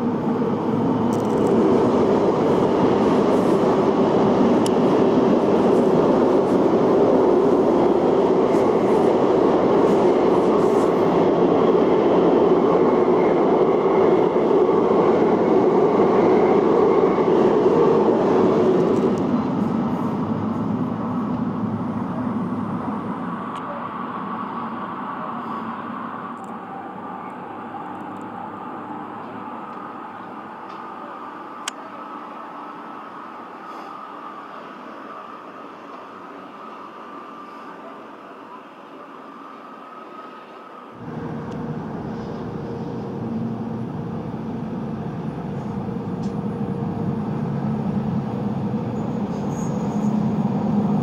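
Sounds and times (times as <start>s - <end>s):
train wheels rumbling on rail: 0.0s - 32.3s, 40.0s - 51.0s.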